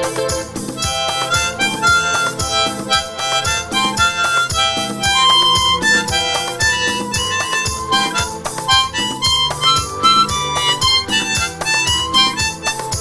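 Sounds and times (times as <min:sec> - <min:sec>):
harmonica melody: 0:00.0 - 0:13.0
regular low beat: 0:00.0 - 0:13.0.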